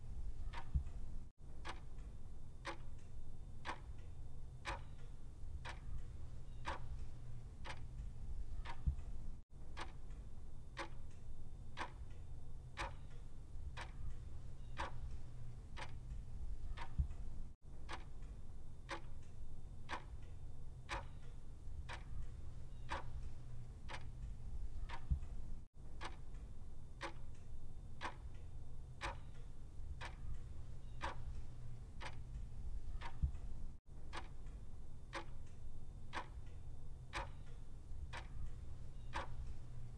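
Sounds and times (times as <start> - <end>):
steady low hum: 0.0 - 39.9
clock ticking: 0.4 - 10.2, 10.8 - 11.2, 11.8 - 12.2, 12.8 - 19.3, 19.9 - 20.3, 20.9 - 28.4, 29.0 - 39.9.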